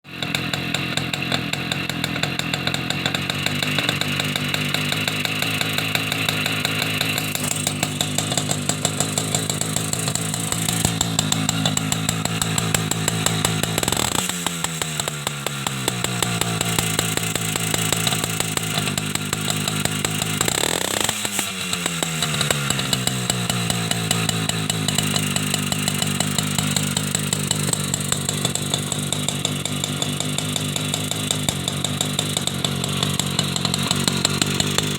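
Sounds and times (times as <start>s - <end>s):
small two-stroke engine running: 0.0s - 34.9s.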